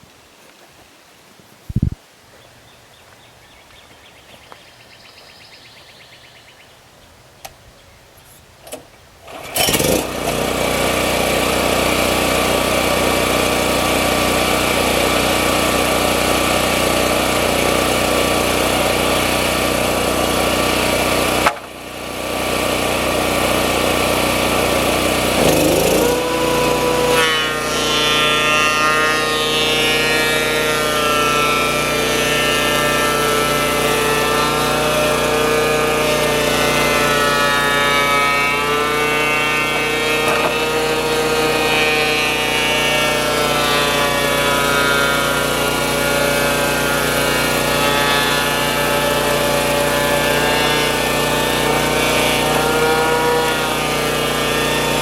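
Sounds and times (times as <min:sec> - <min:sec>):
thickness planer running: 0:09.2 - 0:55.0.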